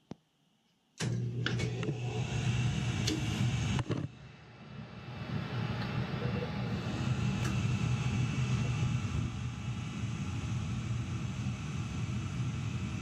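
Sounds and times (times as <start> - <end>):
gas boiler burner roar: 1.0 - 13.0.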